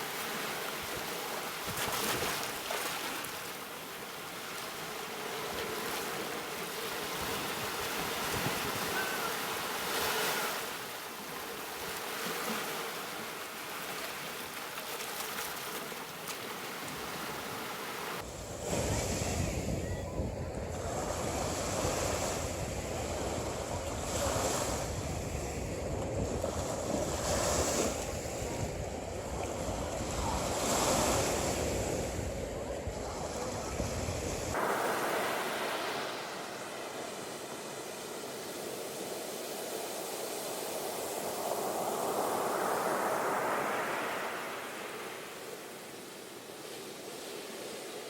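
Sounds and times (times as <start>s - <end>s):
ocean surf washing in: 0.0s - 14.5s, 16.4s - 48.0s
wind-blown surf: 0.0s - 48.0s.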